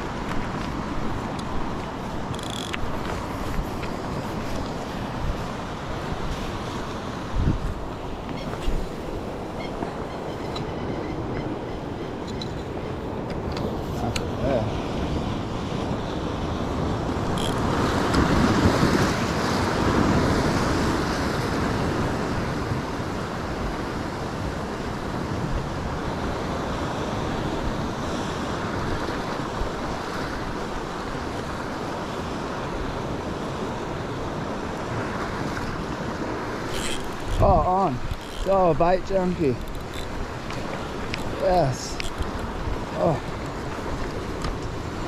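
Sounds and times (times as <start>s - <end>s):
surf washing against rocks: 0.0s - 10.0s, 13.0s - 45.0s
wind buffeting microphone: 0.0s - 45.0s.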